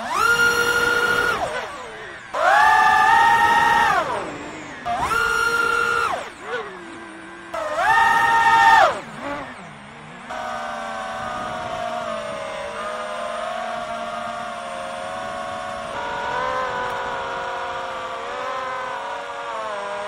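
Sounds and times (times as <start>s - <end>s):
quadcopter propellers whining: 0.0s - 20.0s.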